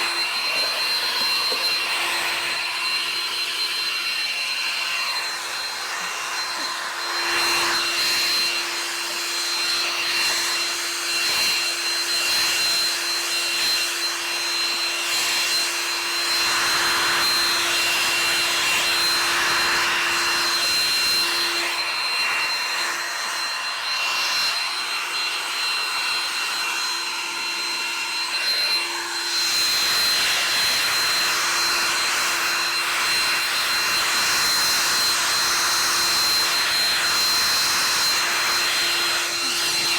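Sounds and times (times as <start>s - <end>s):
electric air blower running: 0.0s - 39.9s.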